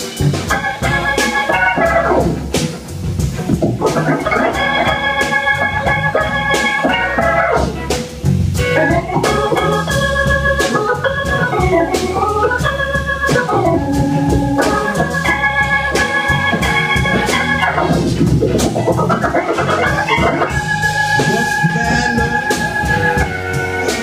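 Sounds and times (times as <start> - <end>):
live blues band playing: 0.0 - 24.0
organ chords: 0.0 - 24.0.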